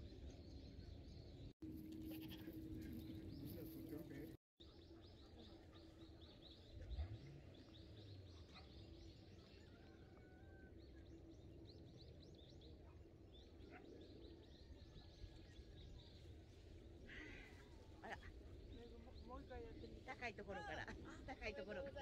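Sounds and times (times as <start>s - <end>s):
faint low hum: 0.0s - 22.0s
small birds chirping: 0.0s - 22.0s.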